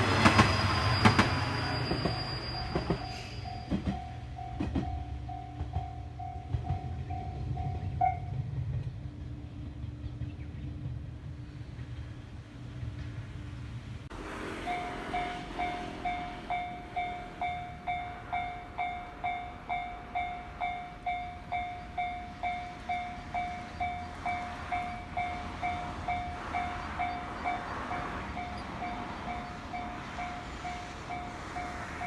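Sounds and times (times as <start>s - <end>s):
level-crossing warning bell ringing: 0.0s - 8.3s, 14.6s - 32.0s.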